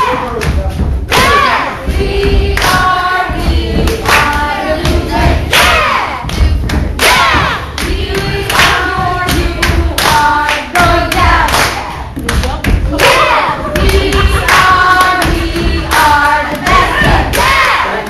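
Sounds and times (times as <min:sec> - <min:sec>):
low thumping rumble: 0:00.0 - 0:17.7.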